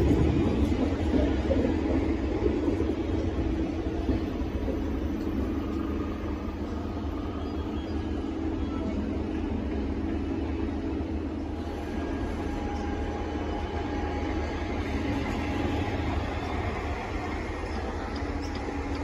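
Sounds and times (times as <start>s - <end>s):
tram wheels rumbling on track: 0.0s - 19.0s.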